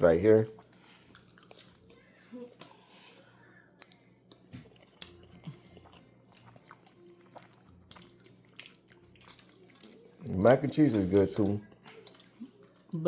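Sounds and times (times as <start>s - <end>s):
person chewing food: 0.4s - 13.0s.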